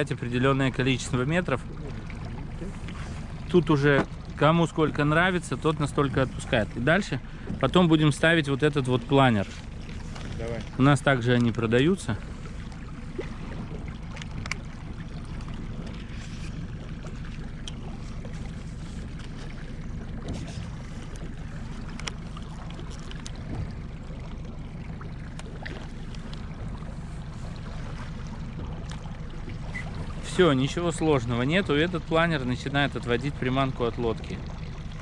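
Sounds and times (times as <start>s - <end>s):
outboard motor humming: 0.0s - 35.0s
water lapping along hull: 0.0s - 35.0s.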